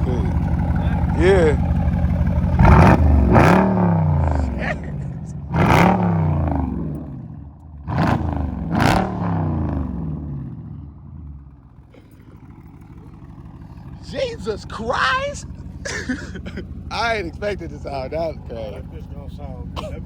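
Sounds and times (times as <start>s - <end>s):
car engine revving with loud exhaust: 0.0s - 20.0s.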